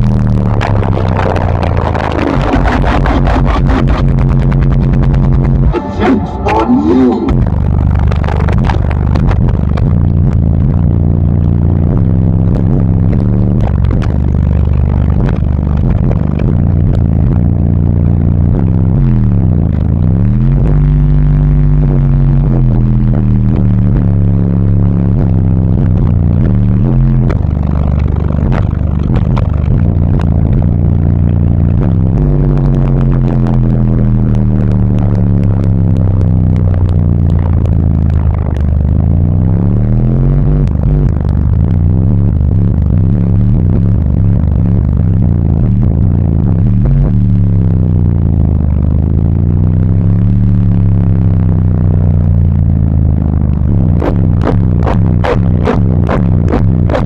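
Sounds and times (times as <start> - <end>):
loud bass-heavy music: 0.0 - 57.0.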